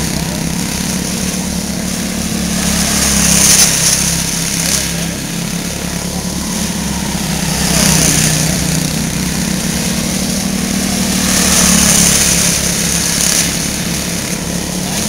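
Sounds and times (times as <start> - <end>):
small race car engines: 0.0 - 15.0.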